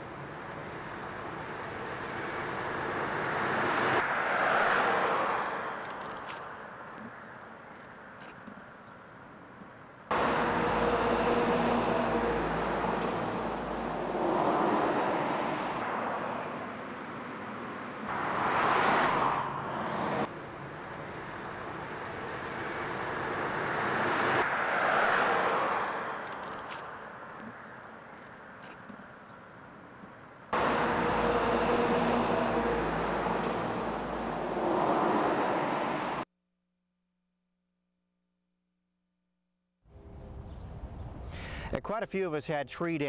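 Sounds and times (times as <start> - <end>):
cars passing: 0.0 - 8.4, 9.5 - 36.3.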